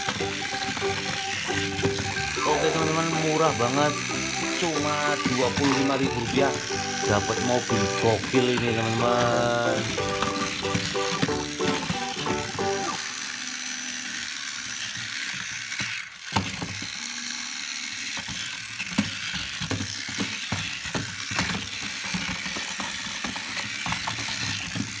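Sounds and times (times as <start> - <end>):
toy motor whirring: 0.0 - 25.0.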